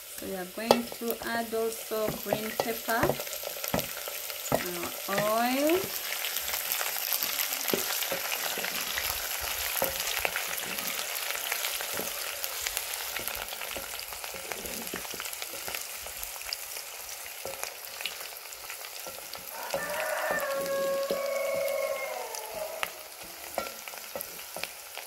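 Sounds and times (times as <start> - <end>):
vegetables sizzling in oil: 0.0 - 25.0
wooden spoon scraping a pan: 0.6 - 16.4, 17.2 - 22.0.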